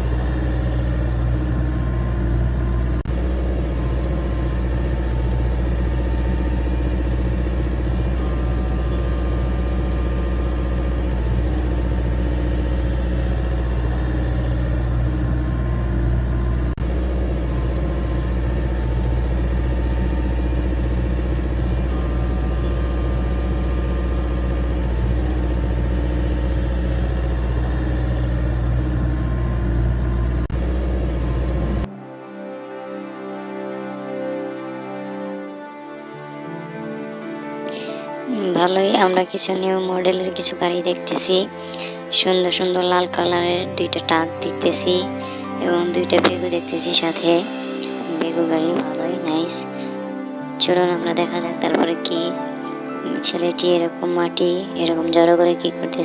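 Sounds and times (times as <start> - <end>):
engine idling: 0.0 - 31.9, 37.7 - 52.6.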